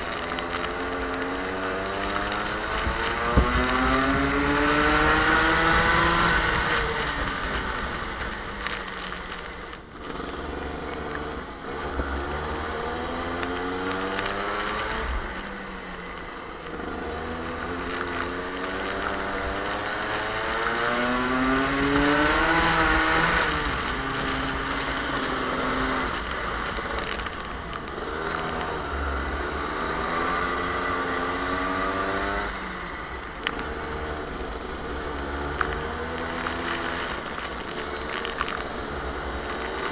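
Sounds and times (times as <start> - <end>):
kart engine revving: 0.0 - 39.9
wind and track spray hiss: 0.0 - 39.9.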